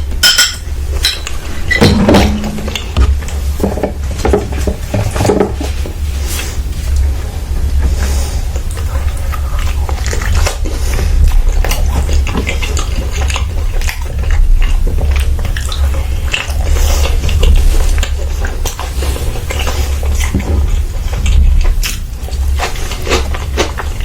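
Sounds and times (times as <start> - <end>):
steady low hum: 0.0 - 24.0
wet chewing: 2.5 - 24.0.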